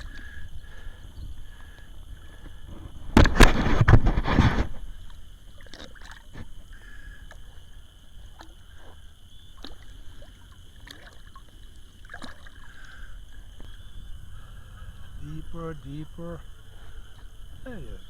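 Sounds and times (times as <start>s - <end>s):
river water: 0.0s - 18.0s
wind: 0.0s - 18.0s.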